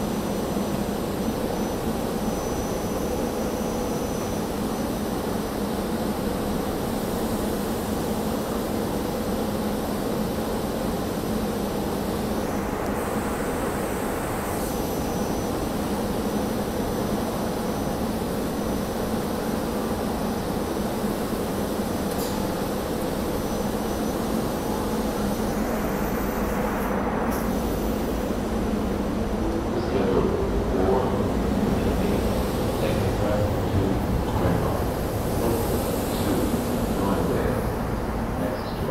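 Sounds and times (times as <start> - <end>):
continuous rushing noise: 0.0 - 38.9
electric train humming: 0.0 - 38.9.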